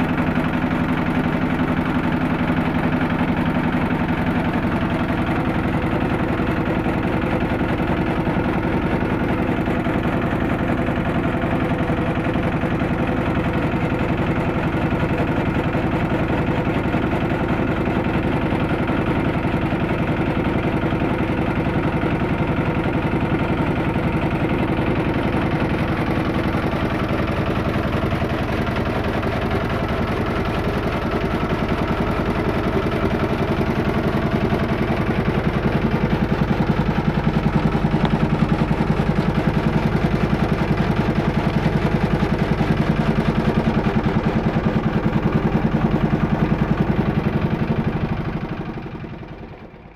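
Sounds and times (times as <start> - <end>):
diesel engine chugging: 0.0 - 49.9.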